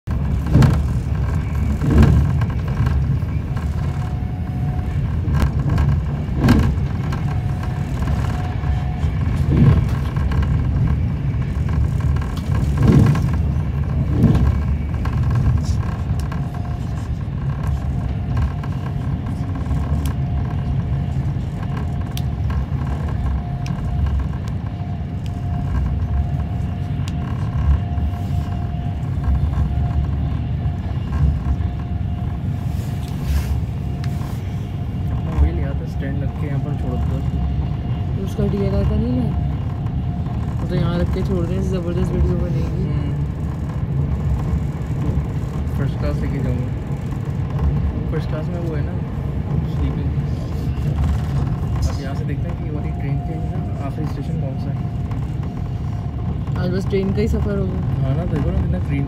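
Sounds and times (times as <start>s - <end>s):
train wheels rumbling on track: 0.0s - 59.0s
faint steady whine: 0.1s - 59.0s.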